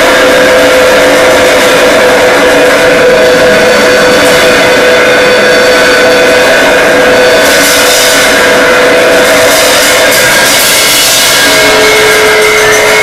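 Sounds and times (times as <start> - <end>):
experimental noise music: 0.0 - 13.0.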